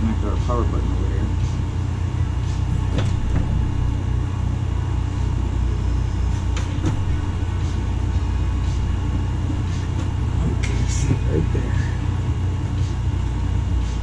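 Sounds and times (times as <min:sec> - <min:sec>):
low machinery rumble: 0:00.0 - 0:14.0.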